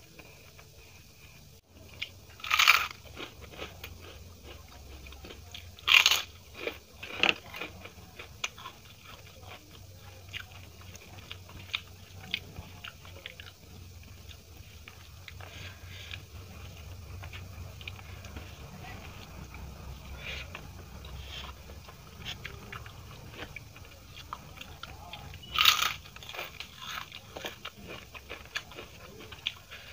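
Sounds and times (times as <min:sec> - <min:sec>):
chewing with crackling crunches: 0:00.0 - 0:29.9.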